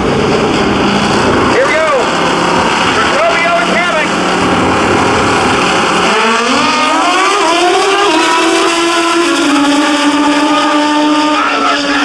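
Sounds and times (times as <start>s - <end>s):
motorcycle engines accelerating: 0.0s - 12.0s.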